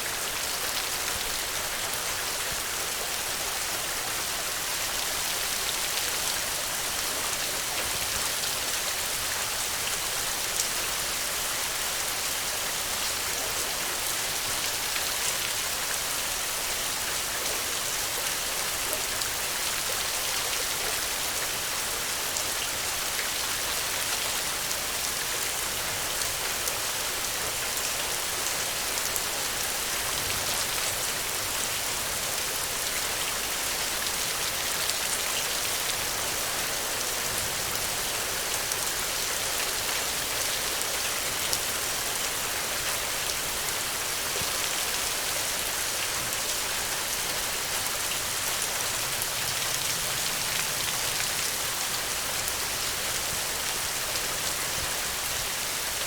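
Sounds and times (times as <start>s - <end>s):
steady rain on ground: 0.0s - 56.0s.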